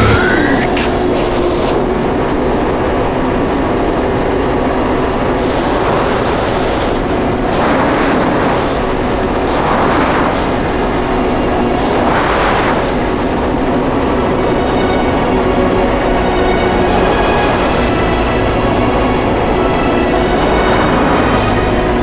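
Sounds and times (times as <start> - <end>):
rush of wind and water: 0.0 - 22.0.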